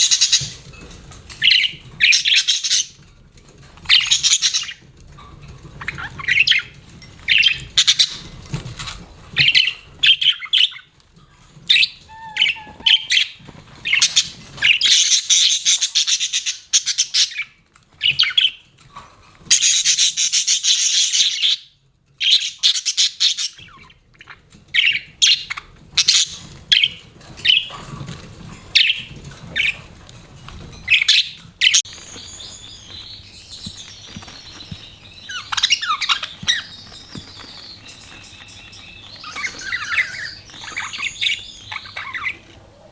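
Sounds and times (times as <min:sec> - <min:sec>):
budgerigars chirping: 0:00.0 - 0:03.0, 0:03.8 - 0:10.9, 0:11.6 - 0:18.6, 0:19.4 - 0:29.9, 0:30.9 - 0:42.6.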